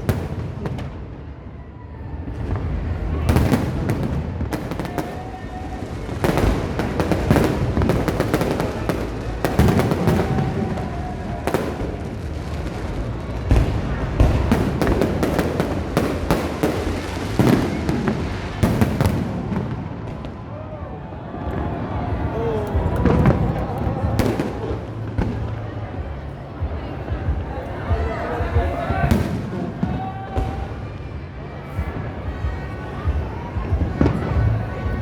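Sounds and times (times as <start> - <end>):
fireworks bangs and crackling: 0.0 - 20.7, 21.4 - 35.0.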